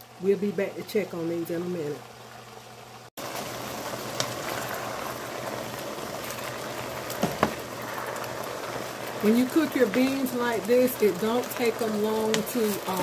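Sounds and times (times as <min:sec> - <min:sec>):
vegetables simmering in a skillet: 0:00.0 - 0:13.0.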